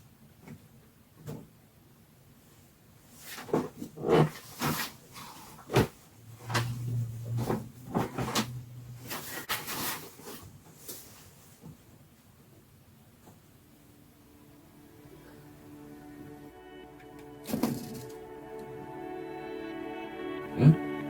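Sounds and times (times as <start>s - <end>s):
low steady hum: 0.0s - 20.7s.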